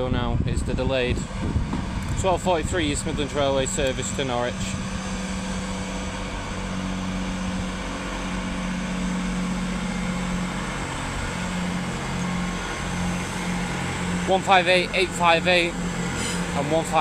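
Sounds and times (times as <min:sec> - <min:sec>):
train diesel engines idling: 0:00.9 - 0:17.0.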